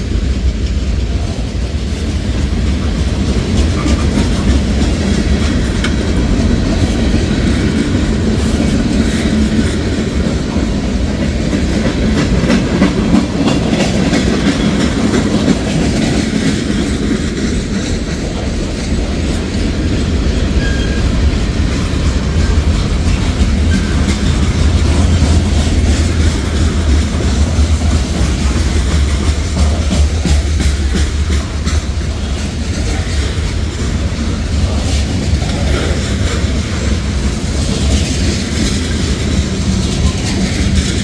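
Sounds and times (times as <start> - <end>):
train wheels rumbling on rail: 0.0 - 41.0
wheels clacking over rail joints: 0.0 - 41.0.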